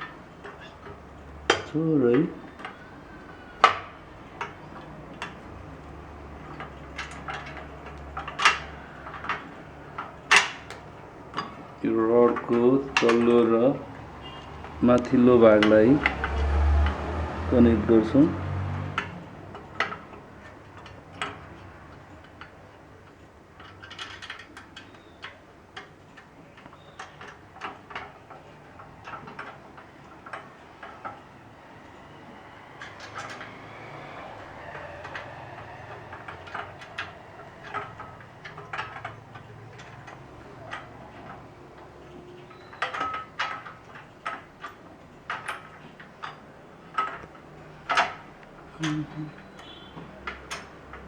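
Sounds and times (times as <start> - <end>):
parts clicking and knocking: 0.0 - 51.0.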